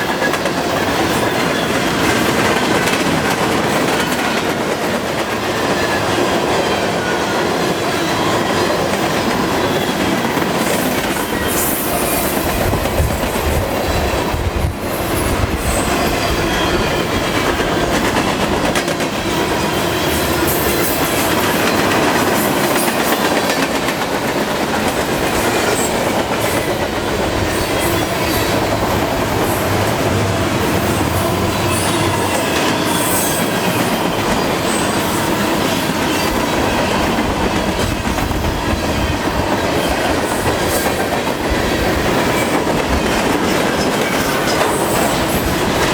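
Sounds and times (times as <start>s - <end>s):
freight train wheels rumbling on rail: 0.0s - 45.9s.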